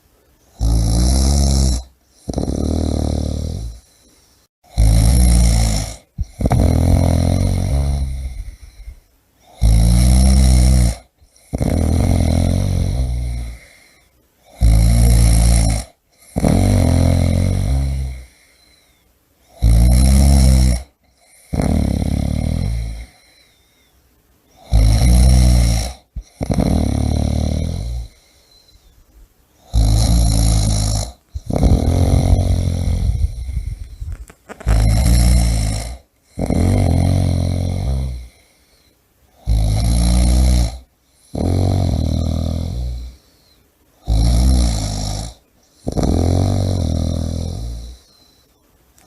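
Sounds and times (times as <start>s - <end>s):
person snoring: 0.5s - 23.7s, 24.6s - 29.0s, 29.6s - 48.5s.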